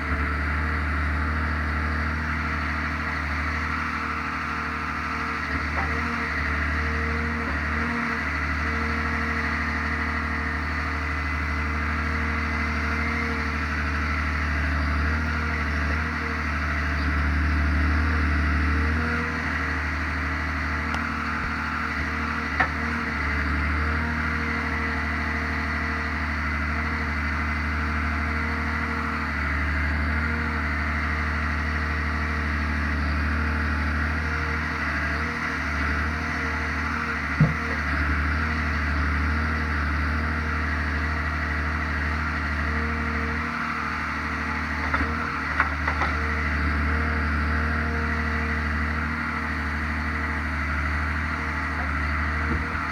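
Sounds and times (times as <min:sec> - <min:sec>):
diesel engine running: 0:00.0 - 0:52.9
hydraulic crane working: 0:00.0 - 0:52.9.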